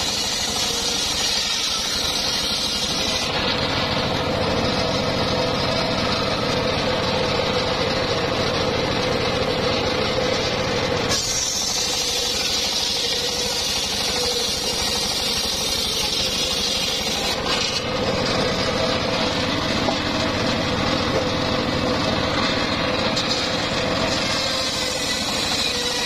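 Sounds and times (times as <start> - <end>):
circular saw cutting log: 0.0 - 26.0.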